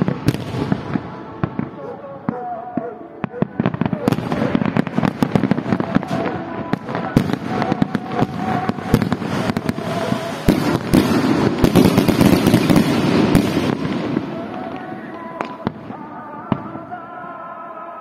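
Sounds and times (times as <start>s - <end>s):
fireworks bangs and crackles: 0.0s - 17.4s.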